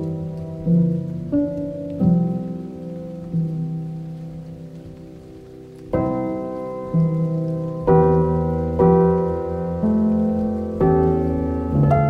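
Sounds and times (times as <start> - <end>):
classical piano chords: 0.0 - 12.0
rain: 0.0 - 12.0.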